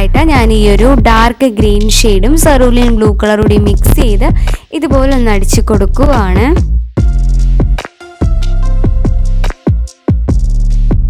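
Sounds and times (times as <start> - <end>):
music with deep bass beat: 0.0 - 11.0.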